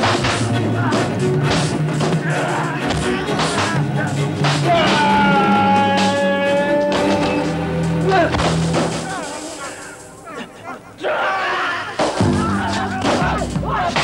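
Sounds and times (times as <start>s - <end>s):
drum hits: 0.0s - 9.3s, 12.0s - 14.0s.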